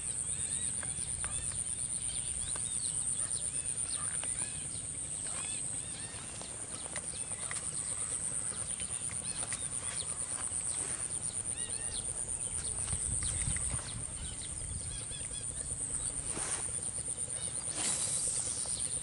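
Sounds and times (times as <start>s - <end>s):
birds chirping: 0.0s - 19.0s
insects trilling: 0.0s - 19.0s.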